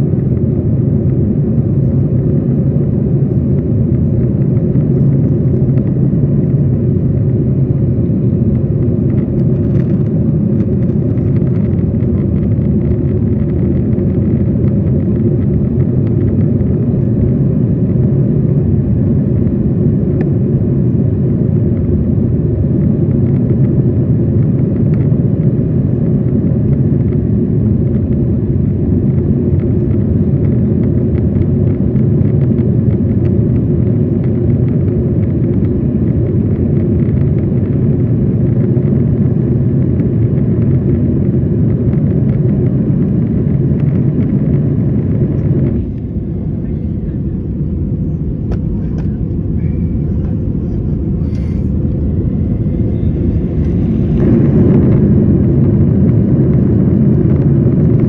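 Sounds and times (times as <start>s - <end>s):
airplane engines and airflow rumble: 0.0s - 58.0s.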